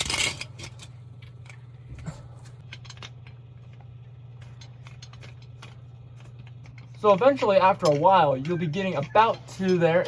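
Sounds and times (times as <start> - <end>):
metal clicks and rattles of crank: 0.0 - 1.6, 2.6 - 10.0
steady low hum: 0.0 - 10.0.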